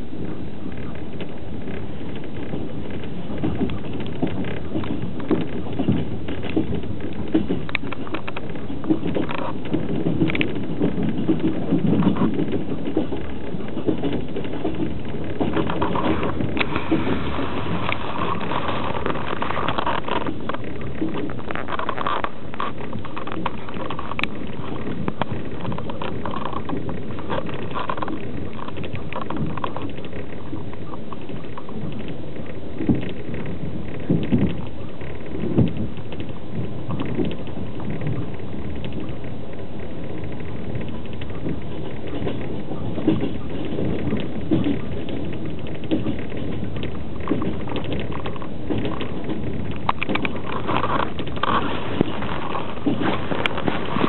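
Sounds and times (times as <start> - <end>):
train wheels rumbling on rails: 0.0 - 54.0
rattles and knocks: 0.7 - 54.0.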